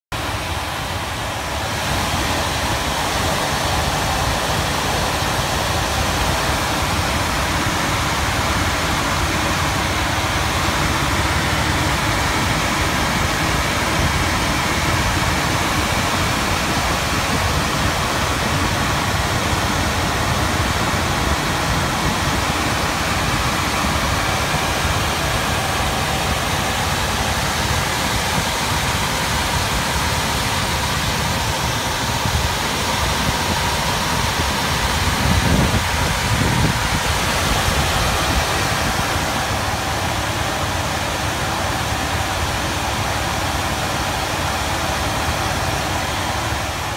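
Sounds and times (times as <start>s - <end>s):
furnace blower running: 0.1s - 46.9s.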